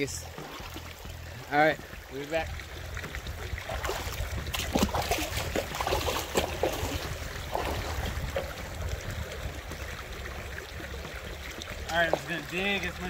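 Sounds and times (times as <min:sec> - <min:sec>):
creek water splashing: 0:00.0 - 0:13.0
steady low rumble: 0:00.0 - 0:13.0.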